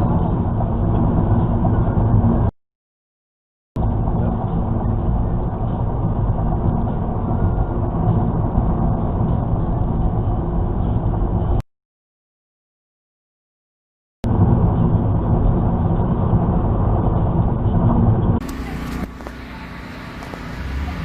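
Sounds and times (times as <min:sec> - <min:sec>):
car engine and road noise: 0:00.0 - 0:02.5, 0:03.8 - 0:11.6, 0:14.2 - 0:21.0.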